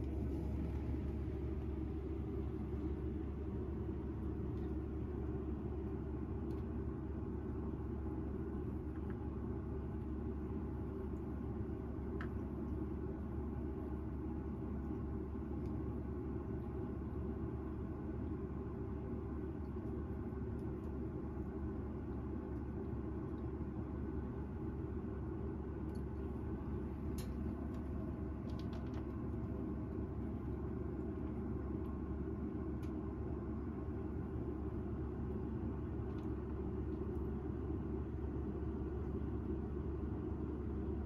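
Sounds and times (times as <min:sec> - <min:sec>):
low rumbling background noise: 0:00.0 - 0:41.0.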